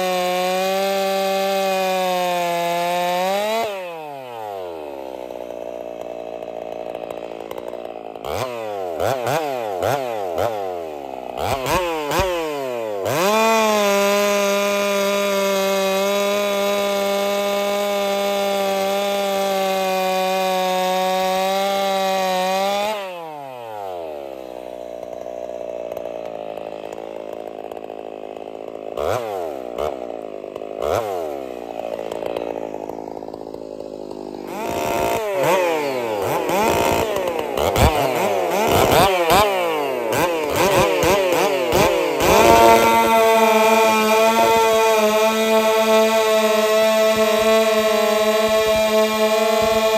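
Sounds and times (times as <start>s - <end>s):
chainsaw cutting log: 0.0s - 49.9s
chainsaw revving and idling: 0.0s - 49.9s.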